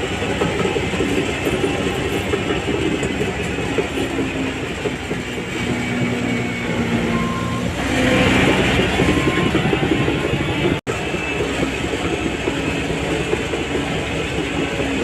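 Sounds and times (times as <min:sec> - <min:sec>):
bulldozer diesel engine: 0:00.0 - 0:15.0
steel tracks clattering: 0:00.0 - 0:15.0.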